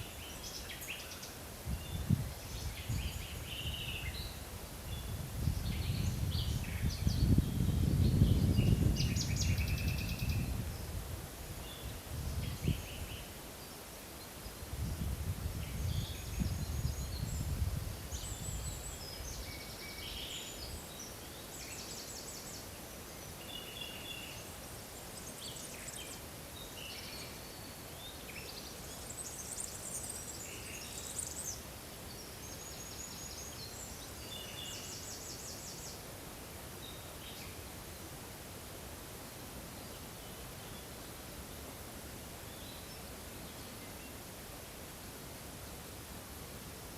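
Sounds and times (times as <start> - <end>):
small birds singing and calling: 0.0 - 36.1, 36.8 - 38.1, 42.4 - 44.3
background hiss: 0.0 - 46.9.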